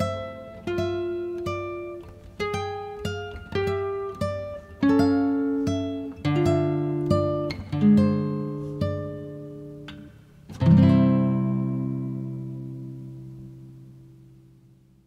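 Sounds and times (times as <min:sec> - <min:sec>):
acoustic guitar picking: 0:00.0 - 0:14.9.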